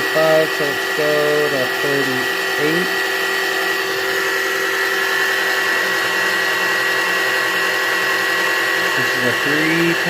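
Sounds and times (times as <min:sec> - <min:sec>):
lathe motor whining: 0:00.0 - 0:10.0.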